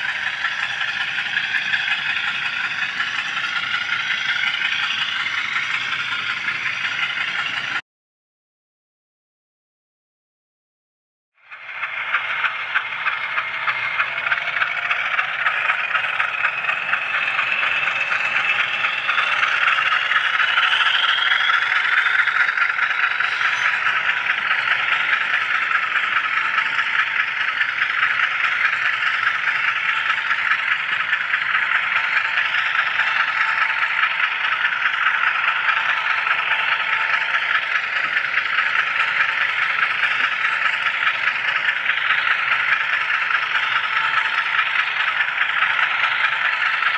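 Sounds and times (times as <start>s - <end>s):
model train wheels clattering: 0.0s - 7.8s, 11.4s - 46.9s
thin motor whine: 0.0s - 7.8s, 11.4s - 46.9s.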